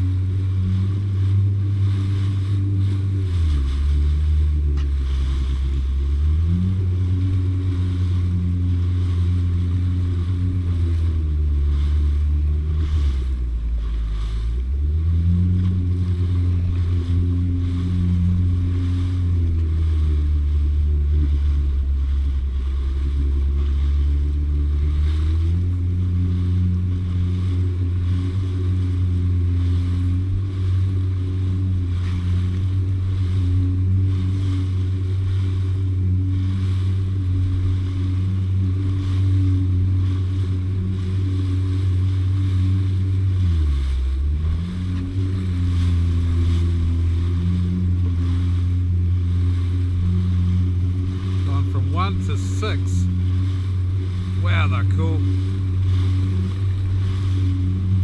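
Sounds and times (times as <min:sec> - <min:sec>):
jet ski engine running: 0:00.0 - 0:58.0
wind noise on microphone: 0:00.0 - 0:58.0.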